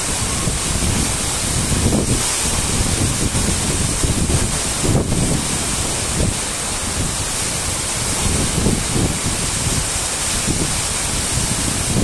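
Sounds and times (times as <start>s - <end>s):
waterfall rushing: 0.0s - 12.0s
wind buffeting microphone: 0.0s - 12.0s.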